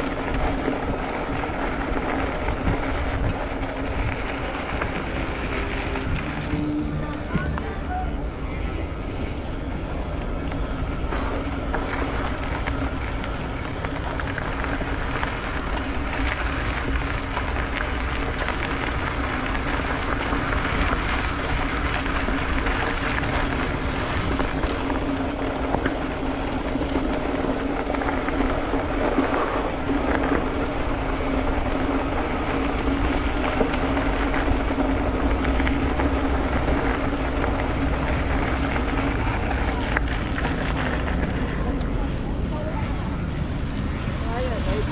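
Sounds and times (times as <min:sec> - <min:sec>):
bicycle road noise: 0:00.0 - 0:44.9
steady hum: 0:00.0 - 0:44.9
wind noise: 0:00.0 - 0:44.9.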